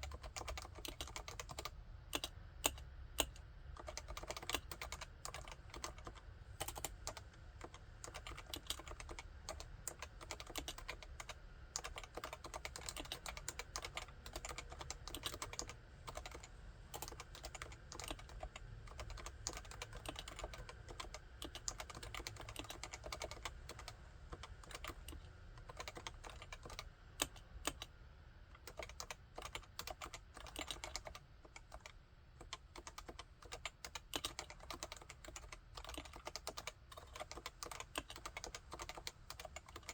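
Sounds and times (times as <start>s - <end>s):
fast typing on keyboard: 0.0s - 27.9s, 28.6s - 39.9s.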